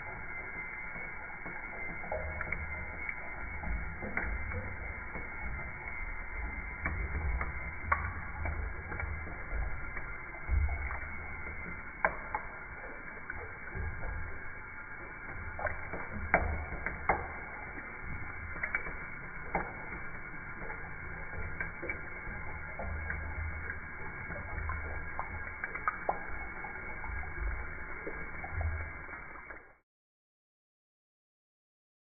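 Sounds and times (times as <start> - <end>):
tap water running into sink: 0.0 - 29.8
water dripping: 0.0 - 29.8
cat lapping water: 0.5 - 29.6.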